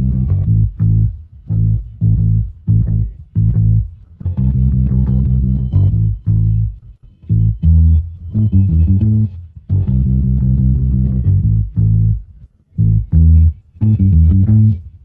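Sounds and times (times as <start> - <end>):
bass guitar plucked notes: 0.0 - 15.0.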